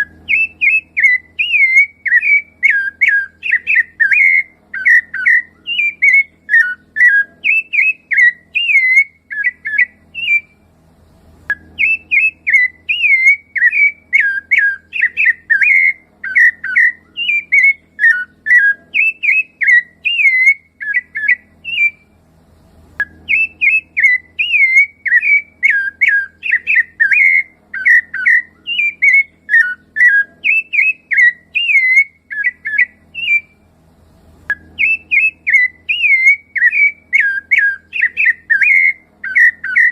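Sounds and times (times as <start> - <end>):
thrush singing fluty whistles: 0.0 - 10.7, 11.5 - 22.2, 23.0 - 33.7, 34.5 - 39.9.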